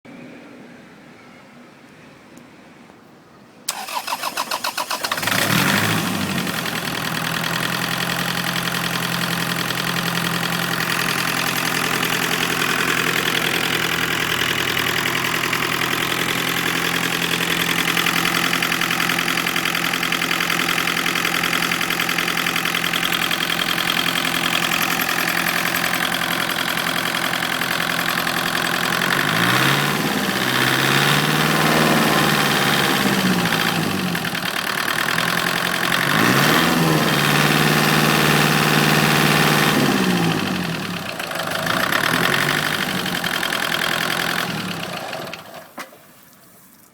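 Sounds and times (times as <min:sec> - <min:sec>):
diesel engine starting and idling: 0:03.7 - 0:46.1.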